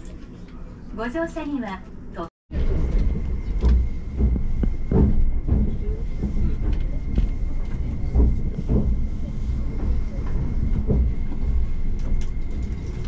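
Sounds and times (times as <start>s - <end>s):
train wheels rumbling on rails: 2.5s - 13.0s.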